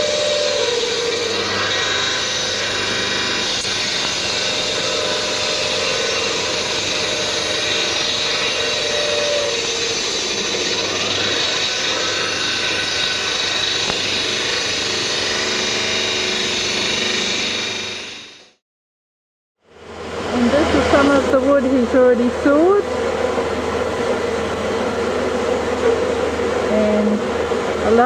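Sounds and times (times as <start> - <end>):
bandsaw mill running: 0.0 - 18.6, 19.8 - 28.0.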